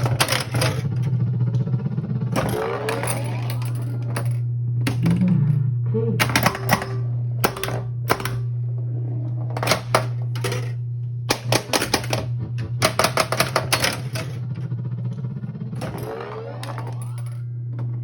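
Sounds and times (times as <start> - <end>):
pinball machine mechanical clacks: 0.0 - 5.6, 6.2 - 18.0
steady low hum: 0.0 - 18.0.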